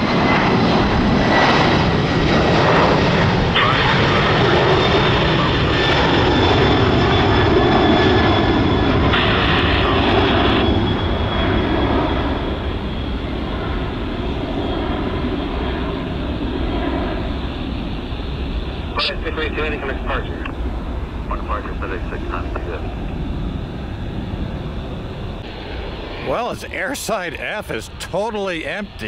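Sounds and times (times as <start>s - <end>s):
faint high engine whine: 0.0s - 29.0s
jet engines roaring: 0.0s - 29.0s.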